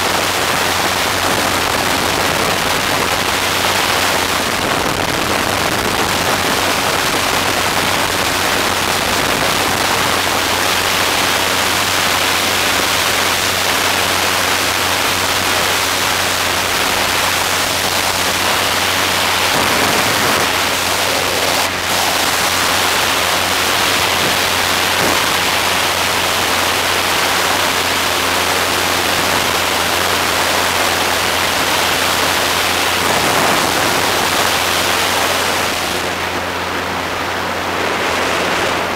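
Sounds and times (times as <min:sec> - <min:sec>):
engine drone: 0:00.0 - 0:38.9
wind rushing over microphone: 0:00.0 - 0:38.9.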